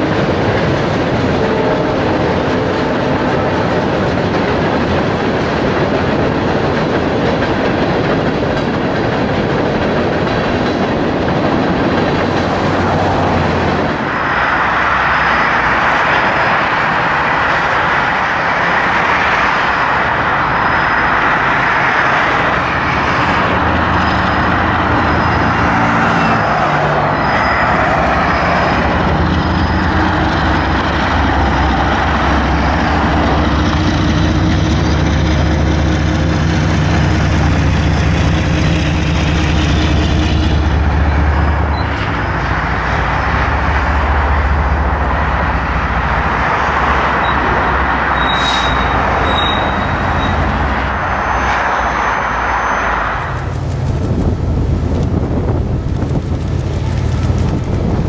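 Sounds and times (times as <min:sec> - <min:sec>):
diesel locomotive engine drone: 0:00.0 - 0:58.0
highway traffic rush: 0:00.0 - 0:58.0.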